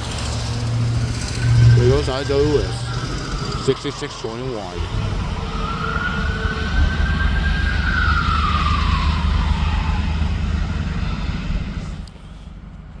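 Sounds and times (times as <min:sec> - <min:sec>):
garbage truck engine rumble: 0:00.0 - 0:13.0
high whine: 0:00.0 - 0:13.0.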